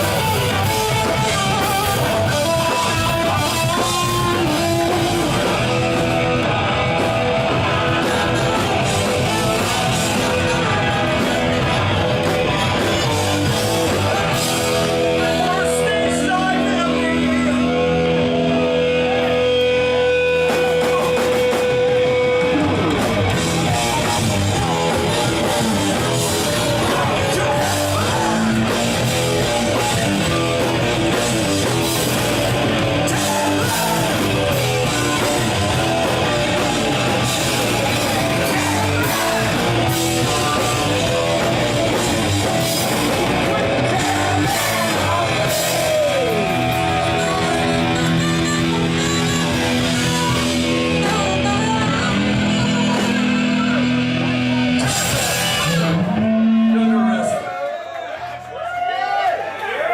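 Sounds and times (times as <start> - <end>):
drum kit: 0.0 - 57.4
person singing: 0.0 - 57.4
electric guitar: 0.0 - 57.6.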